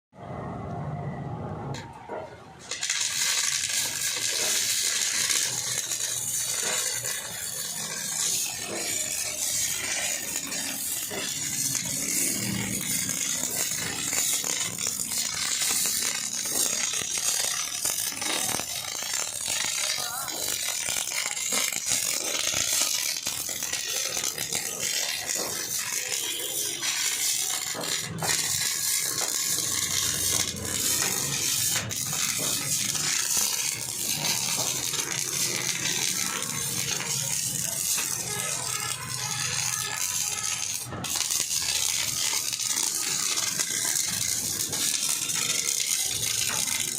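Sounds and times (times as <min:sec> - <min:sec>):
welding arc crackling: 0:01.7 - 0:46.9.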